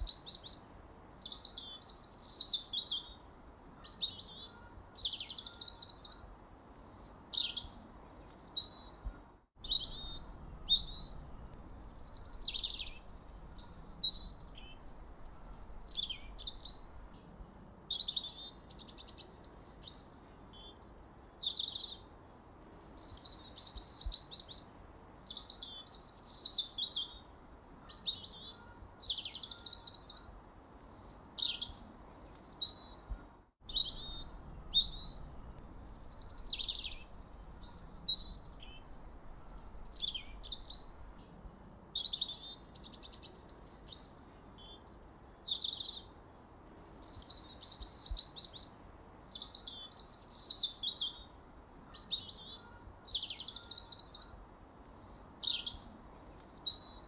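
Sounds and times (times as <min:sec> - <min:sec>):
faint background hiss: 0:00.0 - 0:57.0
songbirds singing and chirping: 0:00.0 - 0:57.0.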